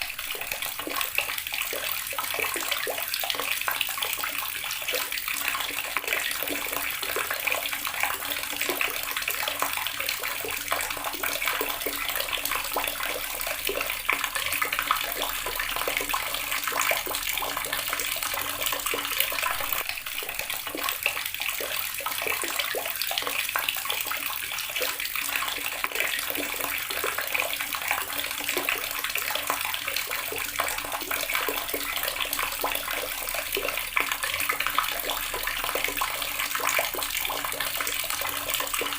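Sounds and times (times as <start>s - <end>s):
tap water splashing into basin: 0.0s - 38.9s.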